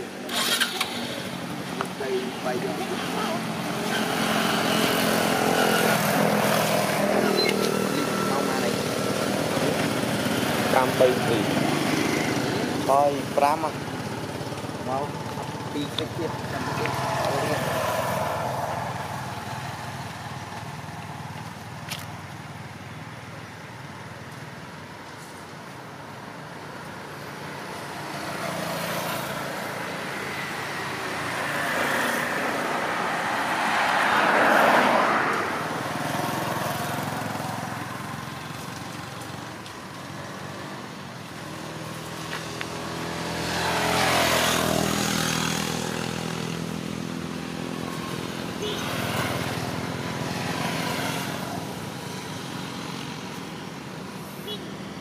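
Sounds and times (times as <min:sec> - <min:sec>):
vehicles passing by: 0:00.0 - 0:55.0.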